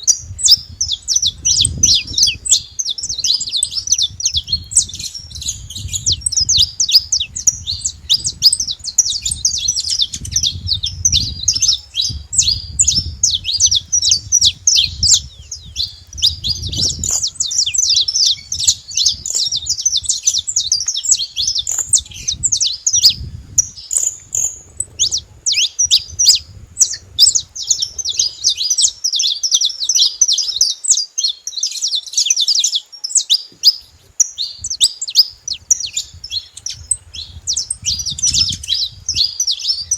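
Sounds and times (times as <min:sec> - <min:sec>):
finch singing sharp chirps: 0:00.0 - 0:39.9.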